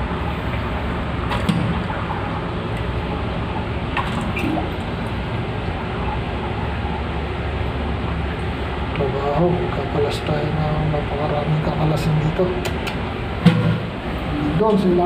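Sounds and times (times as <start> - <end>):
toilet flushing: 0.0 - 12.4.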